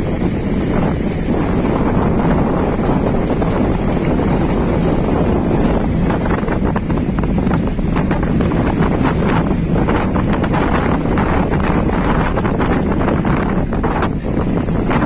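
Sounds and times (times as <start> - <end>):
boat underway: 0.0 - 15.0
wind buffeting microphone: 0.0 - 15.0.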